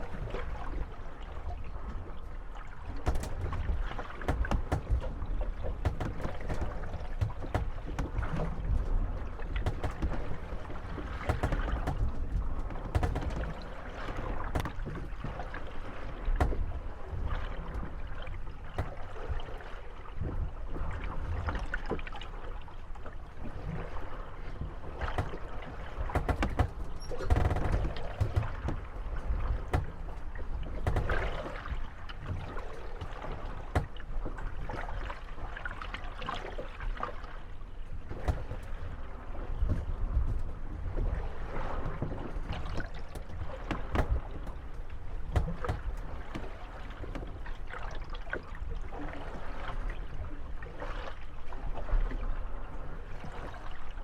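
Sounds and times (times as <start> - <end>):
water lapping at hulls: 0.0 - 54.0
wooden boats bumping and creaking: 0.0 - 54.0.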